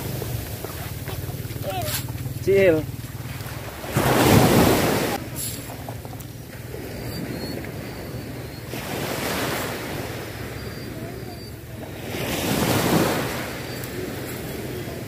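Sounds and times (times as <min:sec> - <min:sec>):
small sea waves breaking: 0:00.0 - 0:15.0.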